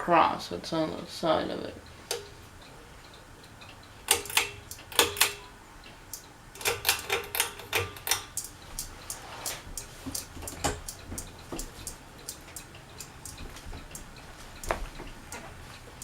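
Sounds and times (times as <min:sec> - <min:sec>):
regular light ticking: 0:00.7 - 0:16.0
metallic clicks on ceiling fan: 0:01.8 - 0:16.0.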